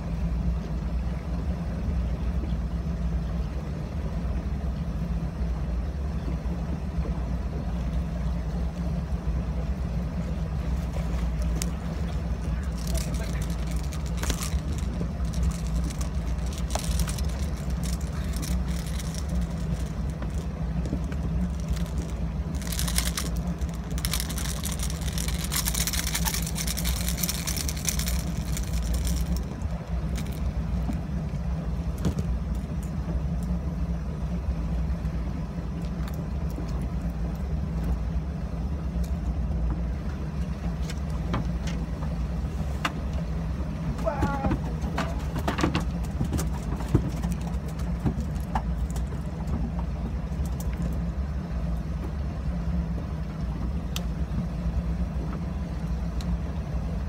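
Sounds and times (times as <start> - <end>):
boat motor droning: 0.0 - 57.0.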